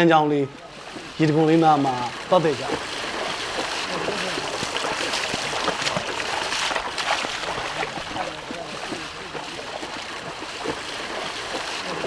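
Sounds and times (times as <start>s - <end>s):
small water splashes: 0.2s - 12.0s
stream rushing over rocks: 0.3s - 12.0s.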